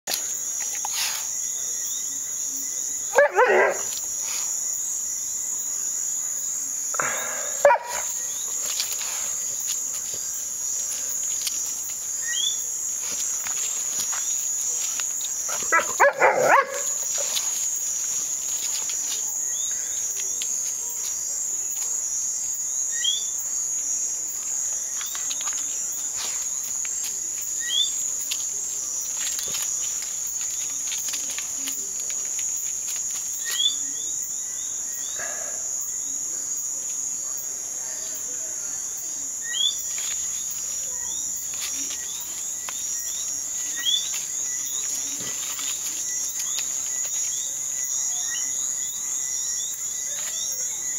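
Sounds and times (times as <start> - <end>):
insect trilling: 0.1 - 50.9.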